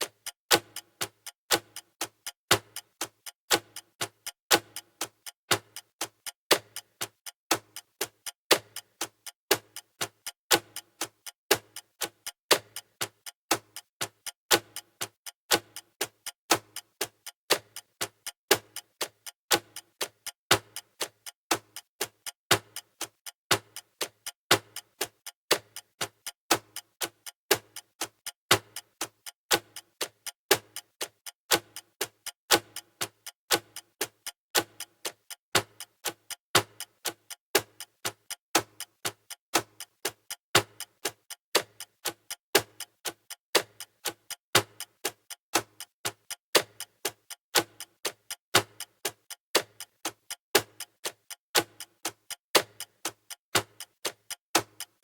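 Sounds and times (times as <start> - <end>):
timer ticking clicks: 0.0 - 55.0.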